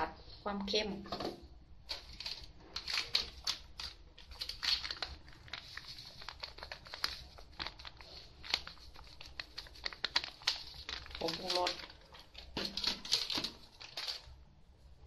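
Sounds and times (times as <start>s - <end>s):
plastic packet crinkling: 1.9s - 14.4s.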